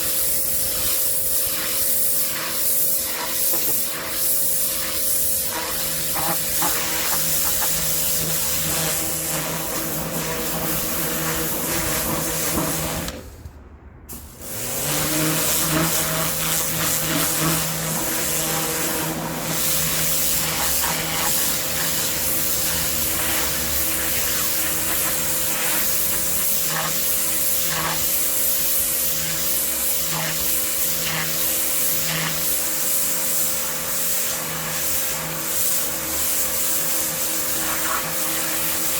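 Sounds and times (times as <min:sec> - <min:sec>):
high-pressure water jet hissing: 0:00.0 - 0:13.2, 0:14.1 - 0:38.9
pressure washer motor humming: 0:00.0 - 0:38.9.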